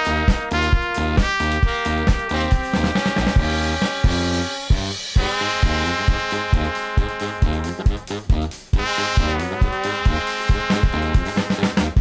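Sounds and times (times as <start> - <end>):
bass saxophone: 0.0 - 12.0
brass band playing held notes: 0.0 - 12.0
drum kit steady beat: 0.0 - 12.0.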